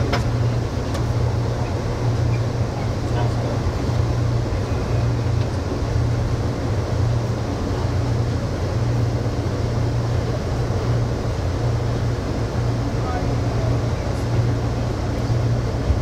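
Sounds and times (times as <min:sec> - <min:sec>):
train rumble with wheel hiss: 0:00.0 - 0:16.0.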